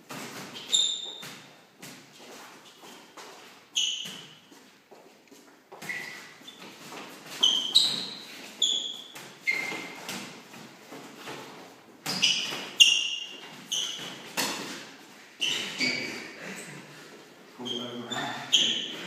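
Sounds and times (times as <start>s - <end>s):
trainers squeaking on hall floor: 0.1s - 5.1s, 5.7s - 19.0s.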